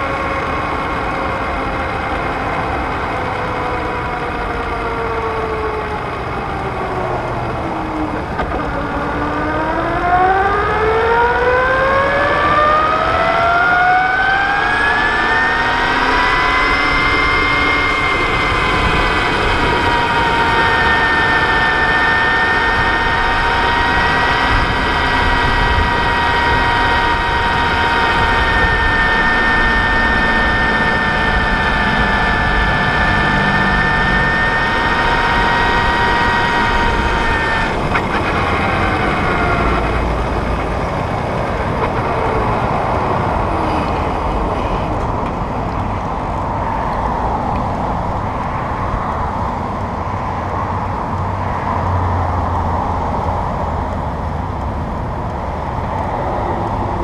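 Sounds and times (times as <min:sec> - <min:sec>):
electric motor whine: 0:00.0 - 0:52.1
wind and road noise: 0:00.0 - 0:57.0.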